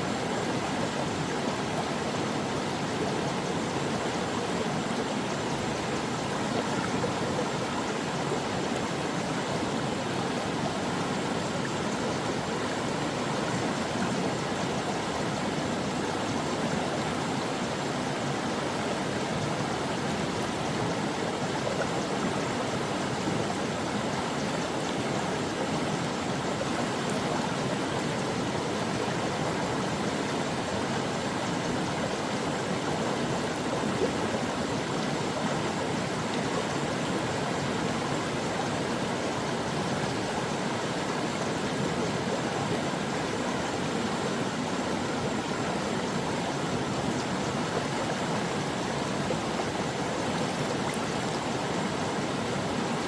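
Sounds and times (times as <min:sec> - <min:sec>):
stream babbling over rocks: 0:00.1 - 0:53.0.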